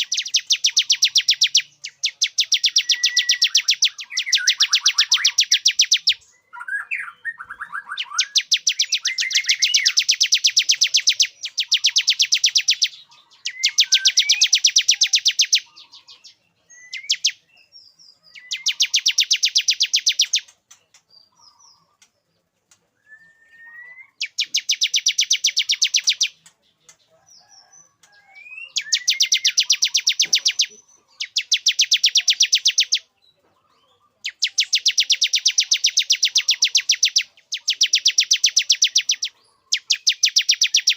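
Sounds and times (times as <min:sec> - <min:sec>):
bird singing rapid high notes: 0:00.0 - 0:21.9, 0:23.2 - 0:26.6, 0:28.3 - 0:33.1, 0:34.2 - 0:40.9.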